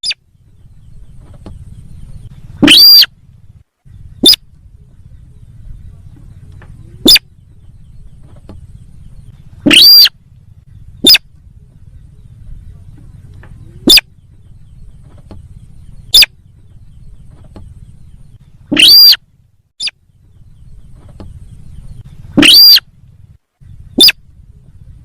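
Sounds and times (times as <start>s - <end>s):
bird calls: 0.0s - 25.0s
low steady hum: 0.0s - 25.0s.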